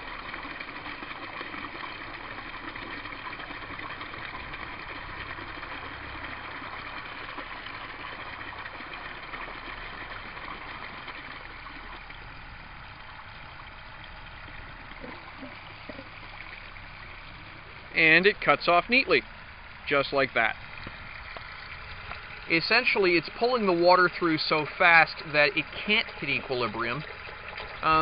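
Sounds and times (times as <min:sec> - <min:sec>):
water gushing and splashing: 0:00.0 - 0:28.0.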